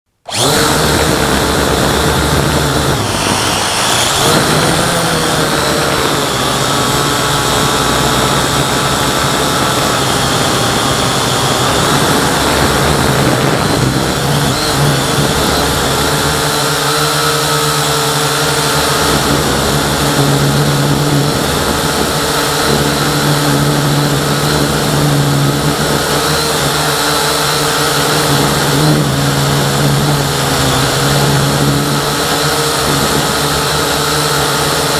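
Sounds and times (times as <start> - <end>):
drone motors whining: 0.2 - 34.9.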